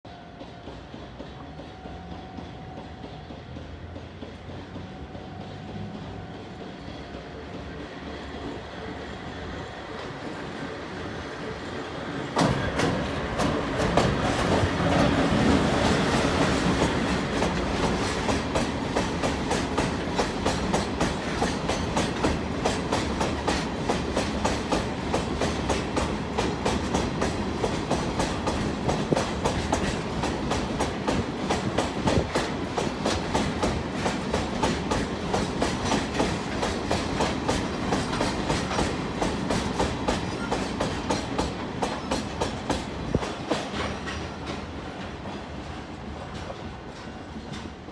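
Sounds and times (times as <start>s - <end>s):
train wheels clacking on rail joints: 0.1s - 47.9s.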